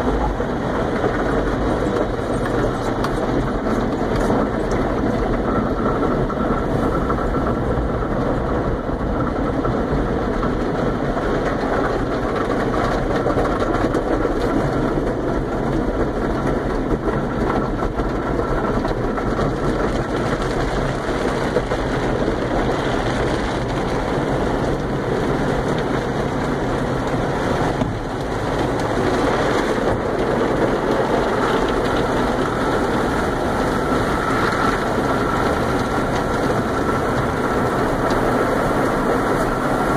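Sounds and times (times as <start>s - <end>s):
car wash water spray and brushes: 0.0s - 39.9s.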